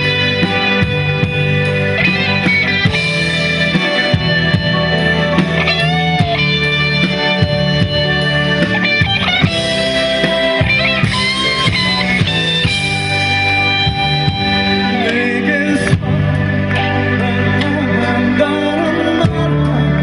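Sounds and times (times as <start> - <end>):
bass: 0.0 - 20.0
drums: 0.0 - 20.0
electric guitar melody: 0.0 - 20.0.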